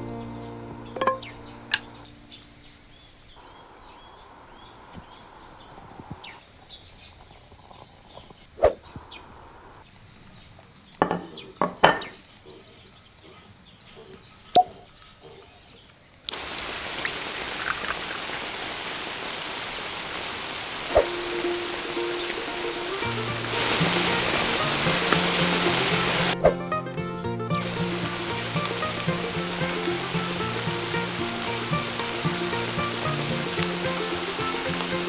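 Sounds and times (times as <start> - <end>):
steady hiss: 0.0 - 15.0, 15.8 - 35.0
high insect drone: 0.0 - 35.0.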